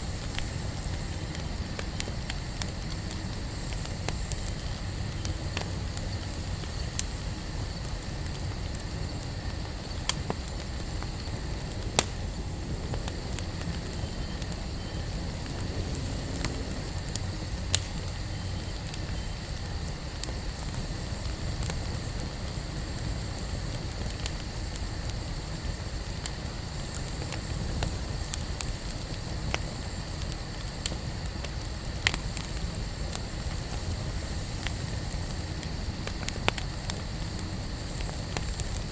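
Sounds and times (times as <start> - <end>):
campfire flames rushing: 0.0 - 38.9
fire crackles and pops: 0.0 - 38.9.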